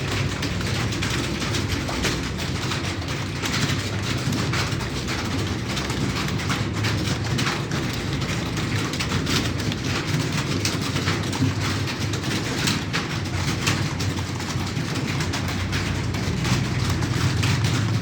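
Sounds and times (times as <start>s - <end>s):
fast typing on keyboard: 0.0s - 18.0s.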